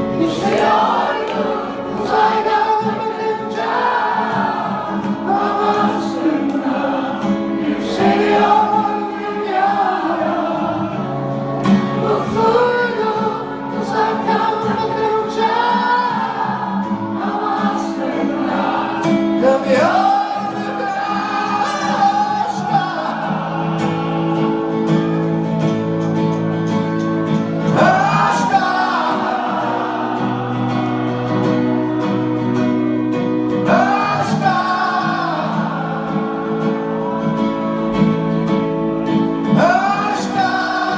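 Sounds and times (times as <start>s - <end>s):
guitar: 0.0s - 40.9s
person singing: 0.0s - 40.9s.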